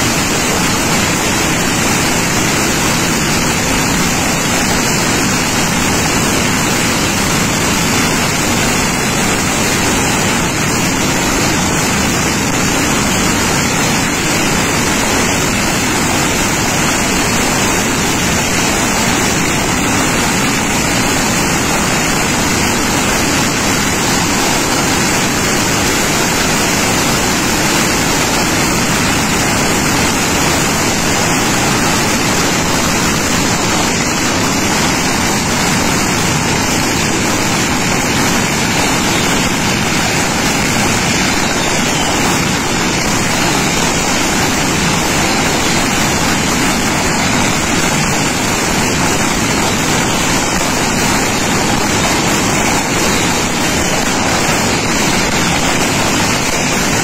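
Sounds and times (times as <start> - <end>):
firecrackers crackling: 0.0 - 57.0.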